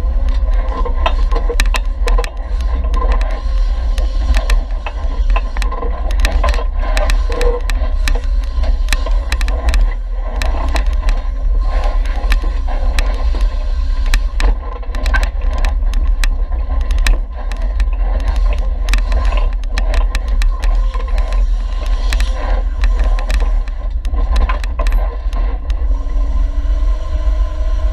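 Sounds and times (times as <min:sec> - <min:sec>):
sharp clicks and knocks: 0:00.0 - 0:26.0
off-road vehicle rumbling: 0:00.0 - 0:27.9.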